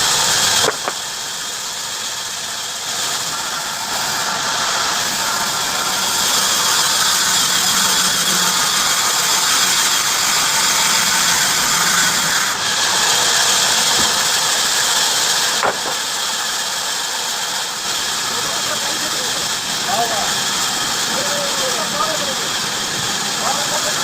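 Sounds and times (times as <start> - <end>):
bandsaw cutting wood: 0.0 - 24.0.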